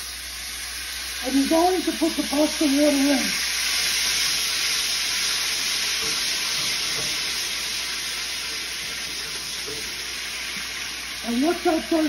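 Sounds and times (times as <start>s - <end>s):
garlic and oil sizzling in a skillet: 0.0s - 12.0s.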